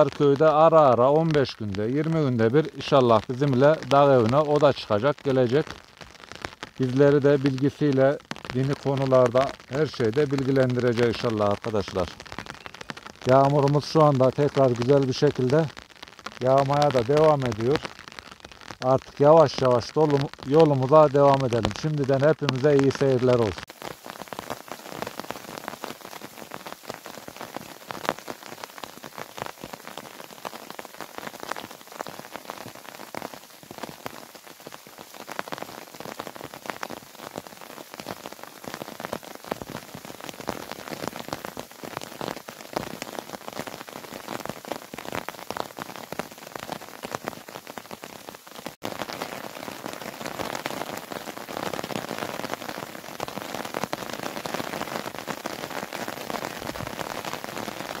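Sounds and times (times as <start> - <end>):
raindrops ticking close by: 0.0 - 58.0
steady rain falling: 0.0 - 58.0.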